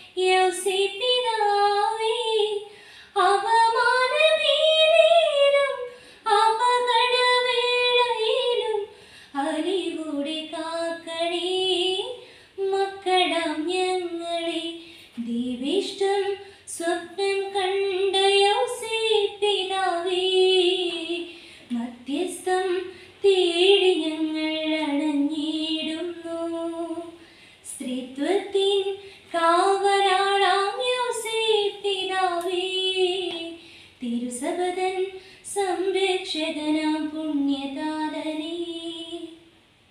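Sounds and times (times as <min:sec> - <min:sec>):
woman singing a hymn: 0:00.0 - 0:39.4.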